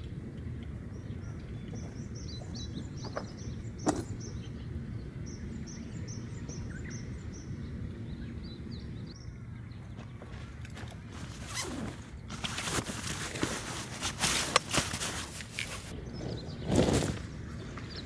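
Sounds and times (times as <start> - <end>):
low outdoor rumble: 0.0 - 18.0
songbird chirping: 0.0 - 18.0.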